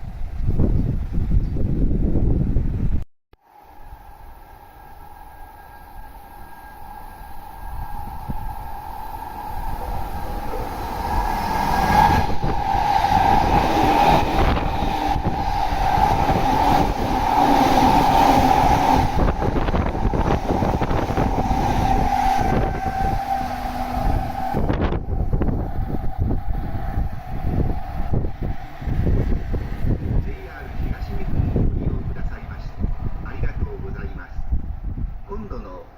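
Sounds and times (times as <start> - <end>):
electric train rushing past: 3.4 - 35.9.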